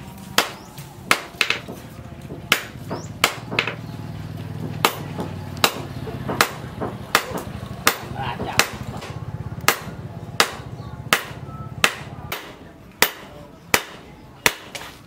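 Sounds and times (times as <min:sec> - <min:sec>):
hammer striking metal on anvil: 0:00.4 - 0:03.8, 0:04.8 - 0:14.8.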